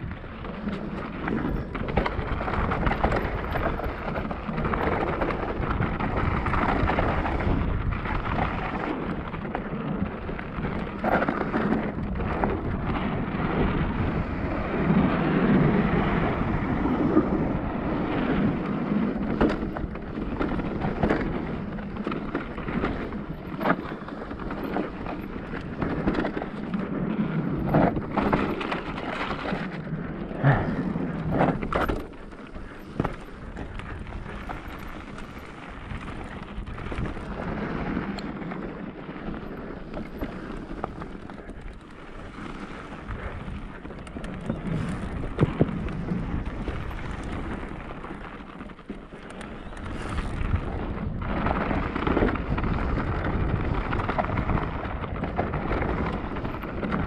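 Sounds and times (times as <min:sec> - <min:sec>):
bike knocks and rattles: 0:00.0 - 0:57.0
tyres rumbling over dirt and stones: 0:00.0 - 0:57.0
wind buffeting microphone: 0:00.0 - 0:57.0.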